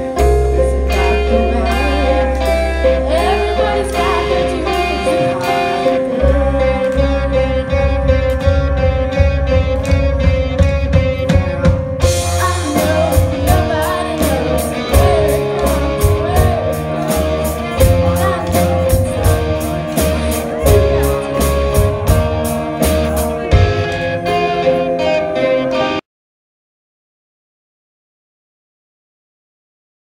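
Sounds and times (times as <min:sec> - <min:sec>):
drums: 0:00.0 - 0:26.0
electric guitar: 0:00.0 - 0:26.0
person singing: 0:00.0 - 0:26.0.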